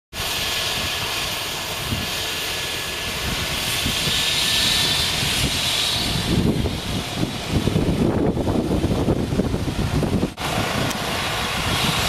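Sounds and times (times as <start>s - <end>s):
helicopter turbine whine and rotor: 0.2s - 12.0s.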